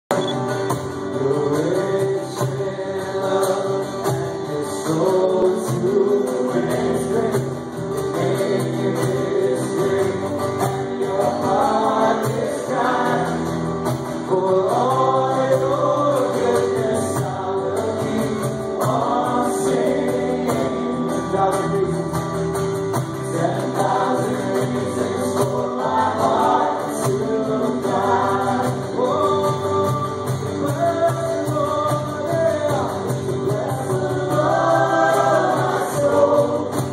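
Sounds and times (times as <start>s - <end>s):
gospel worship music: 0.1s - 36.9s.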